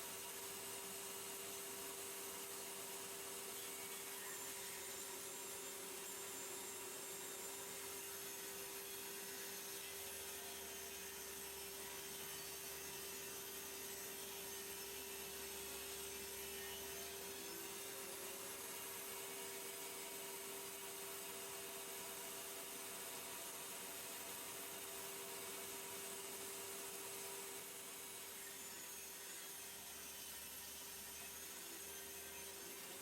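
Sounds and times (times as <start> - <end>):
table saw hum and hiss: 0.0 - 33.0.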